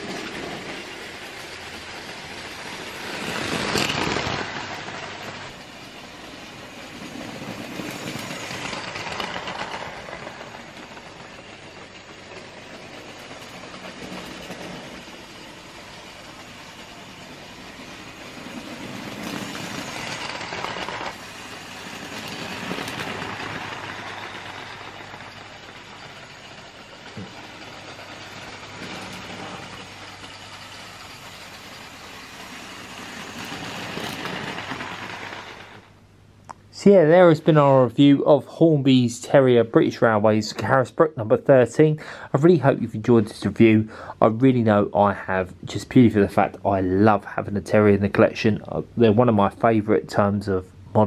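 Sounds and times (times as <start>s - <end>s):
model trains rolling rumble: 0.0s - 51.0s.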